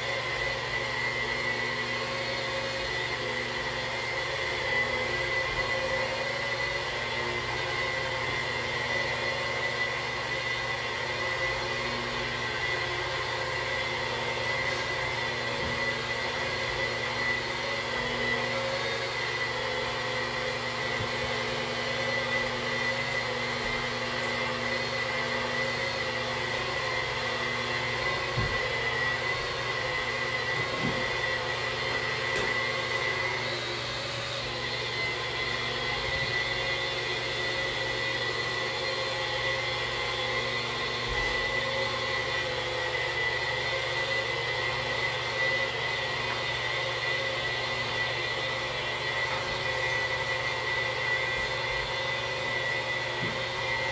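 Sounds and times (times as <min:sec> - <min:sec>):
electric polisher whining: 0:00.0 - 0:53.9.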